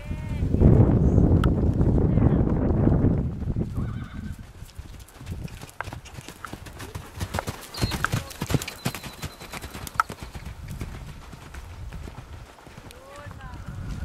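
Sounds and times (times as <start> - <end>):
horse hoofbeats cantering: 2.4 - 14.0.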